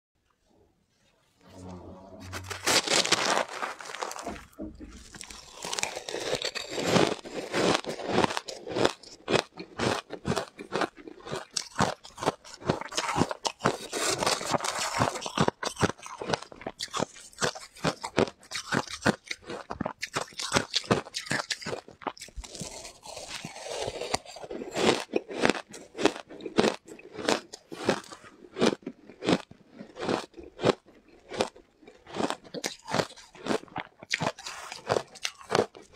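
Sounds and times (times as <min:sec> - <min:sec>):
chewing crunchy shaved ice: 0:02.5 - 0:35.9.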